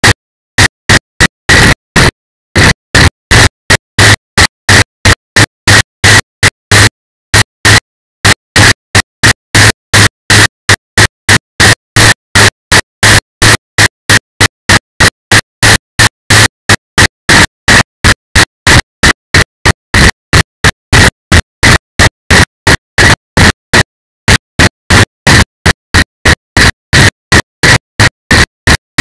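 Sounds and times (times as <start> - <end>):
bursts of harsh static: 0.0 - 29.0.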